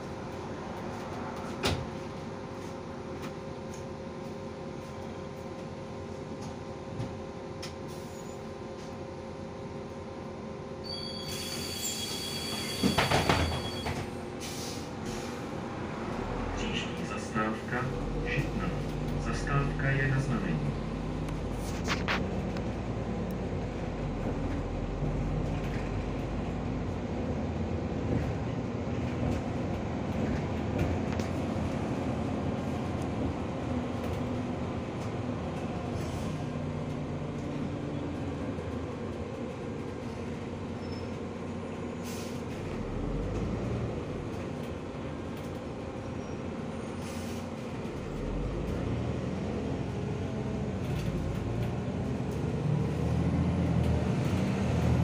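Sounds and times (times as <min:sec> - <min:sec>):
bus engine humming: 0:00.0 - 0:55.0.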